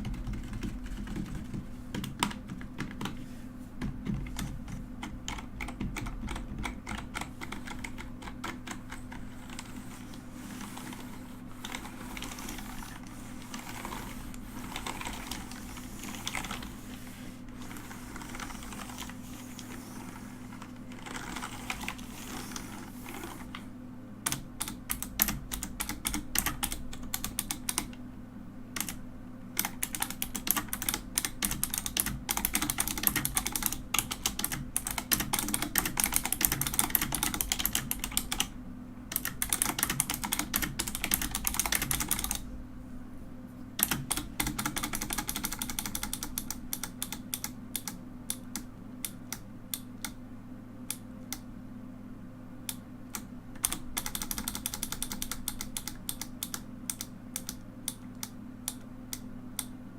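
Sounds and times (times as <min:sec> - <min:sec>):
mechanical keyboard typing: 0:00.0 - 0:03.2, 0:03.8 - 0:23.6, 0:24.2 - 0:28.0, 0:28.8 - 0:29.0, 0:29.6 - 0:38.5, 0:39.1 - 0:42.4, 0:43.8 - 0:49.4, 0:53.1 - 0:58.8.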